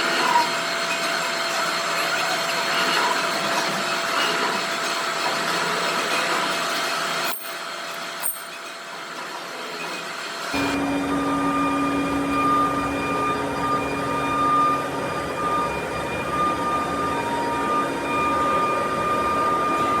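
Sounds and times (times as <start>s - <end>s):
running machinery whine: 0.0s - 9.0s, 9.6s - 20.0s.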